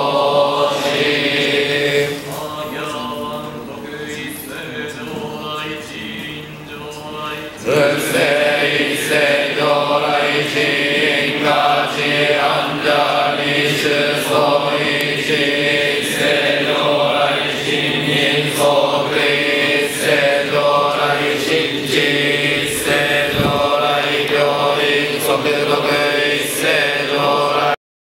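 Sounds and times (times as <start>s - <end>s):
men chanting in unison: 0.0s - 27.8s.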